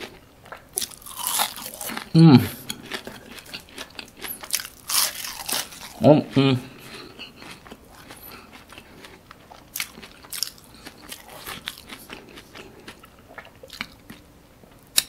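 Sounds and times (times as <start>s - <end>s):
chewing crispy fries: 0.0s - 15.0s.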